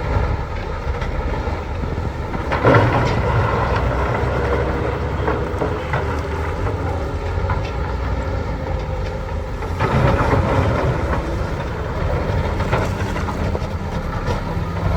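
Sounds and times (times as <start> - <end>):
heavy machinery diesel engine: 0.0 - 14.9.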